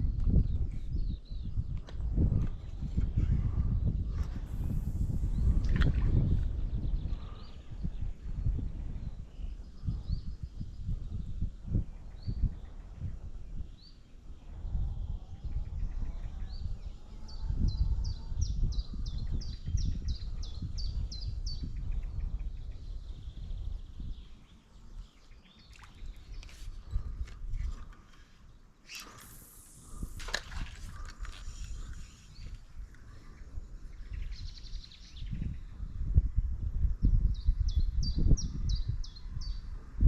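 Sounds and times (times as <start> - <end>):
songbirds calling: 2.6 - 35.9.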